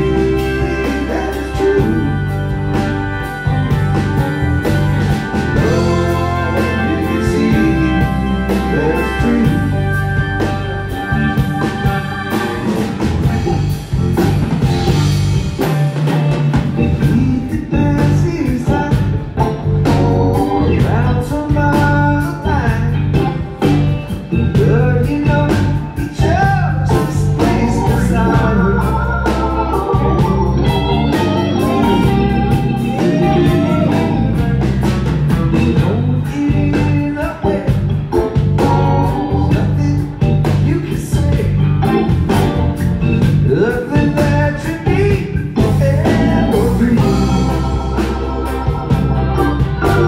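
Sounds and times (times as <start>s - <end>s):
bass guitar: 0.0s - 50.0s
electric guitar: 0.0s - 50.0s
organ: 0.0s - 50.0s.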